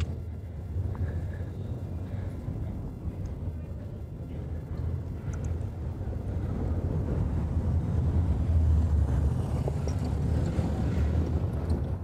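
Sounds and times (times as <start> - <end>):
car driving on cobblestones: 0.0 - 12.0.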